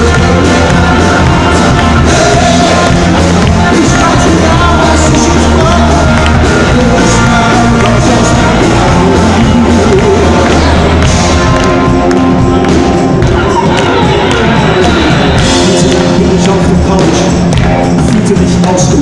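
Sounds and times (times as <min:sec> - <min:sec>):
man singing into microphone: 0:00.0 - 0:11.9, 0:14.0 - 0:19.0
electric guitar: 0:00.0 - 0:19.0
rock band playing loudly: 0:00.0 - 0:19.0.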